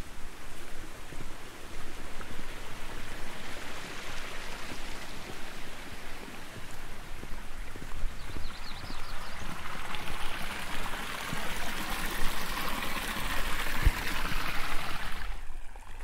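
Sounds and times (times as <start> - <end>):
cart wheel rumbling on dirt: 0.9 - 16.0.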